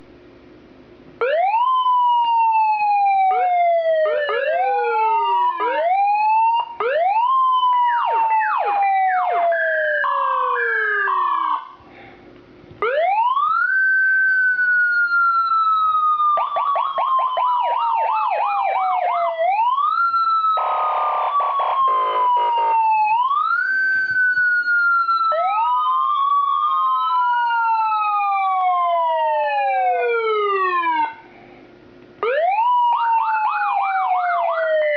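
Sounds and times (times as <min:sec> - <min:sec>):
emergency vehicle siren: 0:01.2 - 0:11.8, 0:12.8 - 0:31.3, 0:32.2 - 0:34.9.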